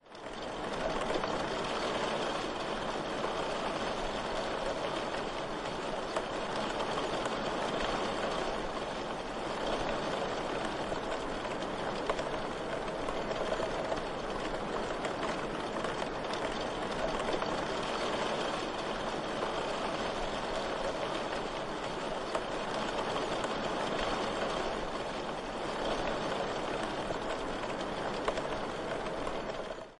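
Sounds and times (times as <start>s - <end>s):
steady rain falling: 0.0s - 30.0s
faint keyboard typing: 0.1s - 30.0s.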